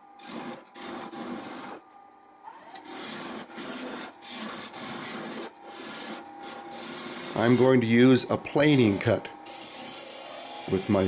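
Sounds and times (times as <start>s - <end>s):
chisel cutting wood on a lathe: 0.2s - 1.8s, 2.8s - 11.0s.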